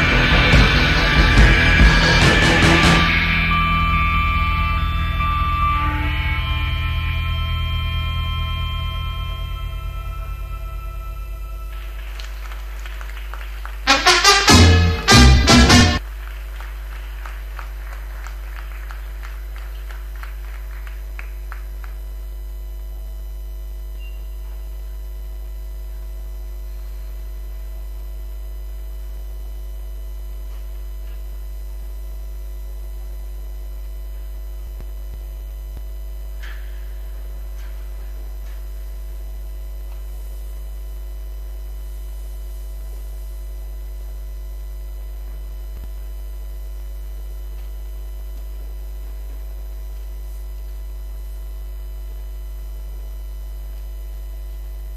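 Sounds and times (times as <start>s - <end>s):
electrical mains hum: 0.0s - 54.9s.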